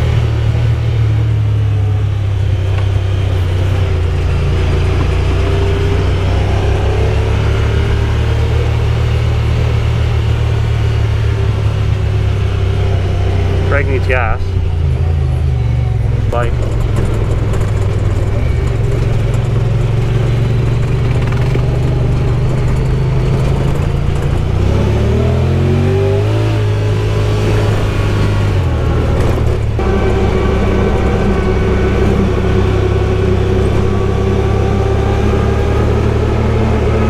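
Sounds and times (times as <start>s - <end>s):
utv engine running: 0.0s - 37.0s.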